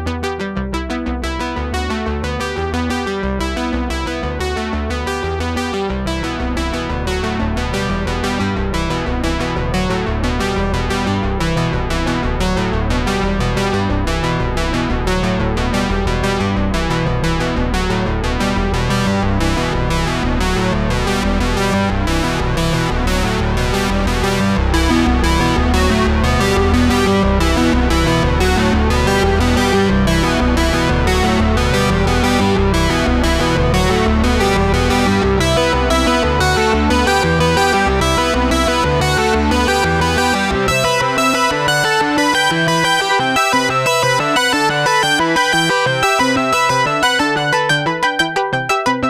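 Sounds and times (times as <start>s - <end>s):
synthesizer and electric piano music: 0.0s - 49.0s.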